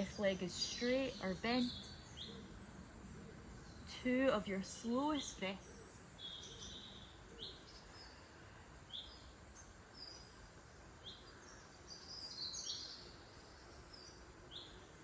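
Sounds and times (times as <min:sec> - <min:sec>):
faint birdsong chirps: 0:00.0 - 0:15.0
outdoor background hiss: 0:00.0 - 0:15.0.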